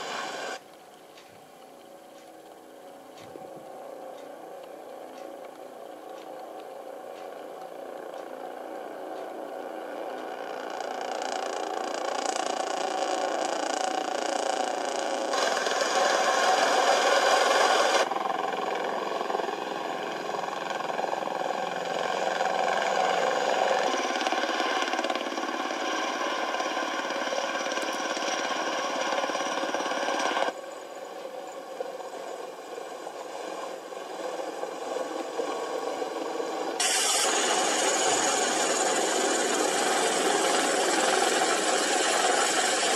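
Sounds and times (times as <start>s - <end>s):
tiltrotor aircraft rotor noise: 0.0s - 42.9s.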